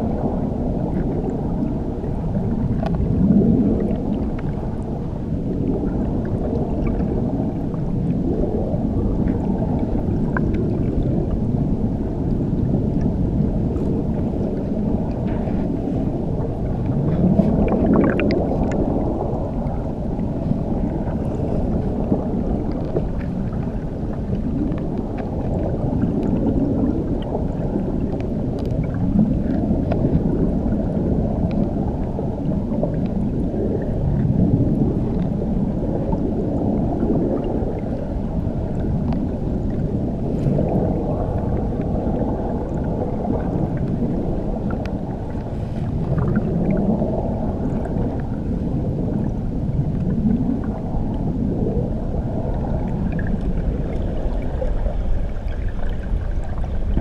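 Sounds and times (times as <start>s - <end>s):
underwater rumble of moving water: 0.0s - 57.0s.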